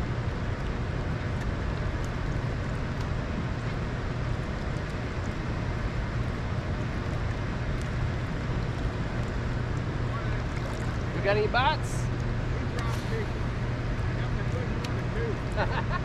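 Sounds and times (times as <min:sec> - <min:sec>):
boat motor rumbling: 0:00.0 - 0:16.0.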